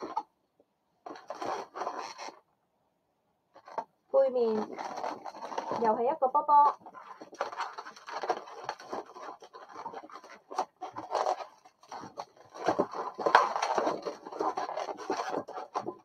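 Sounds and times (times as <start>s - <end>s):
latex balloons rubbing and scraping: 0.0s - 0.3s, 1.0s - 2.4s, 3.6s - 16.0s.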